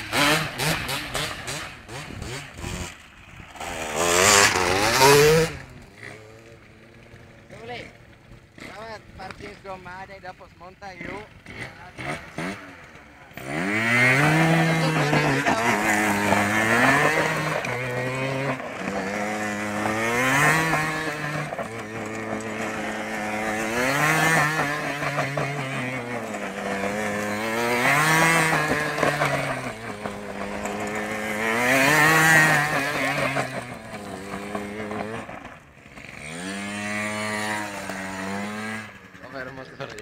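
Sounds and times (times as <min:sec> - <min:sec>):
scooter engine revving: 0:00.0 - 0:40.0
wheel spinning on gravel: 0:00.0 - 0:40.0.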